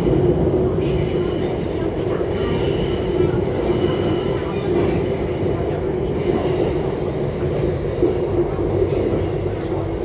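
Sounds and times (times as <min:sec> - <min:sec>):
electric train rumbling: 0:00.0 - 0:10.0.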